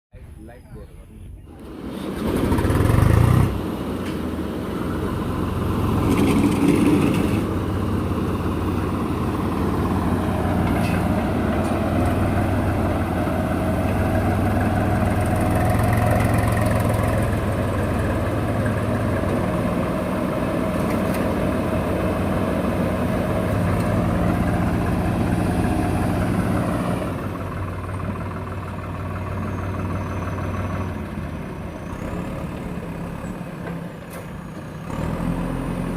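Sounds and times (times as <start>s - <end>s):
heavy diesel engines under load: 0.2s - 35.9s.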